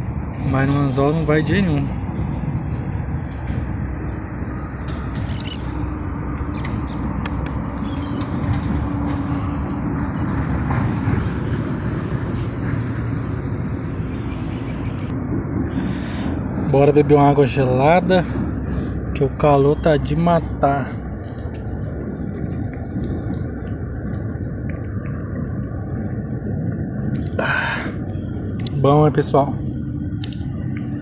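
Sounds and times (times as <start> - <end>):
high-pitched insect drone: 0.0 - 31.0
low rushing noise: 0.0 - 31.0.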